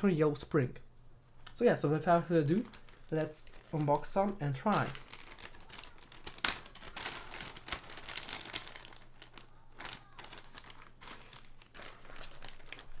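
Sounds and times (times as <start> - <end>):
packaging crinkling: 1.5 - 13.0.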